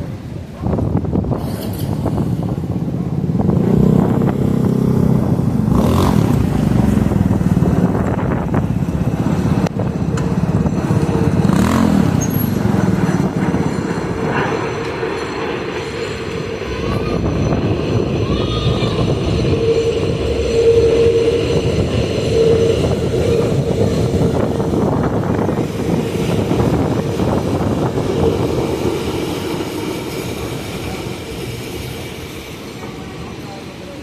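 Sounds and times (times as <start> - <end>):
heavy street traffic rumble: 0.0 - 34.0.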